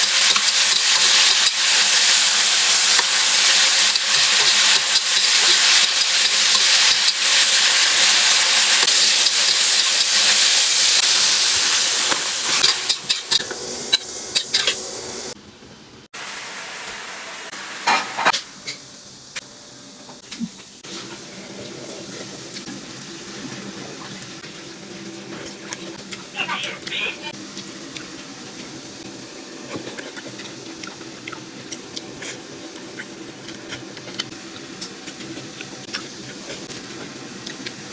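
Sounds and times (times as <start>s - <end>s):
food sizzling in a pan: 0.0s - 15.4s, 16.2s - 37.9s.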